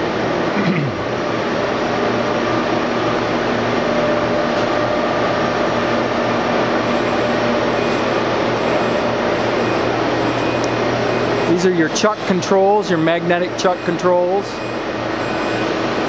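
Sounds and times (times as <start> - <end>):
industrial machinery drone: 0.0 - 16.0
low electric hum: 0.0 - 16.0.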